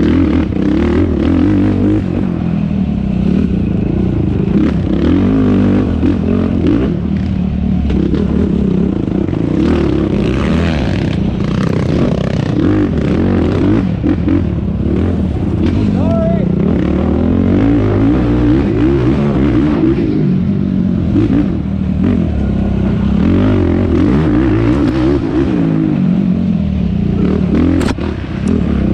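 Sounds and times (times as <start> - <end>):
quad engine revving: 0.0 - 2.5, 3.2 - 26.2, 27.1 - 28.9.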